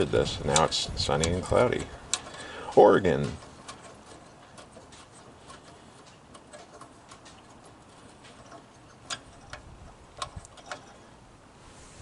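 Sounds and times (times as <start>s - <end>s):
metal parts and tools clicking: 0.0s - 11.2s.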